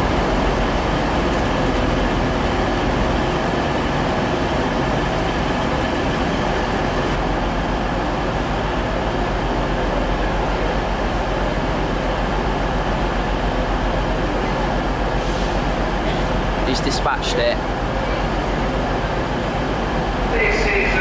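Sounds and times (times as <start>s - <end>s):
diesel locomotive engines running: 0.0s - 21.0s.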